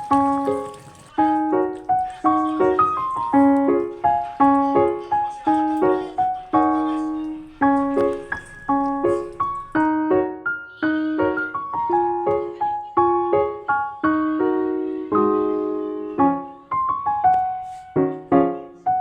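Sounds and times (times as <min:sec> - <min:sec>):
piano melody: 0:00.0 - 0:19.0.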